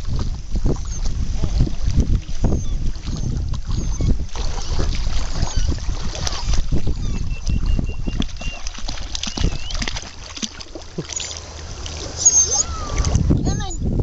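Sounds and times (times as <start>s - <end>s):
seawater splashing: 0.0s - 13.6s
wind rumbling on microphone: 0.0s - 14.0s.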